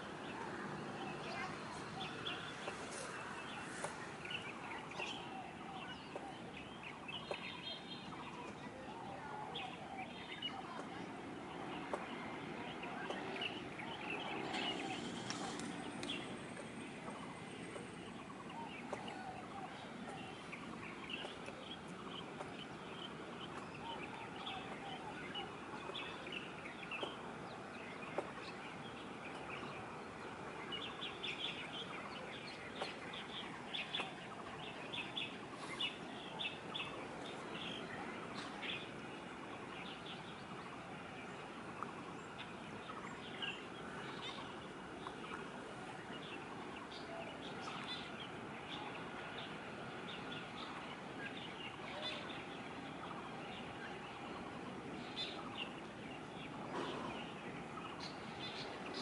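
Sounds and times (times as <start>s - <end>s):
outdoor background noise: 0.0s - 59.0s
small birds chirping: 0.0s - 59.0s.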